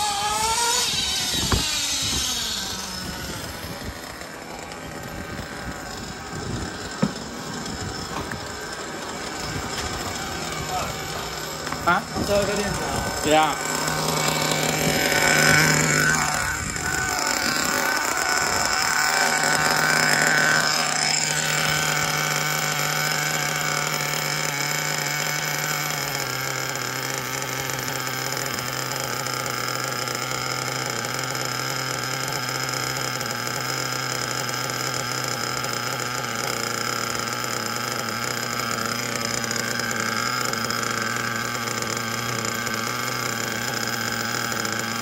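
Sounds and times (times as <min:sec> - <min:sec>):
rc car engine revving: 0:00.0 - 0:45.0.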